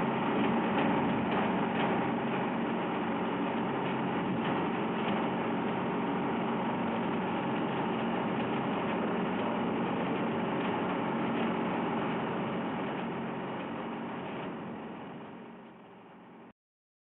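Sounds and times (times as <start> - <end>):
heavy engine machinery humming: 0.0 - 16.3.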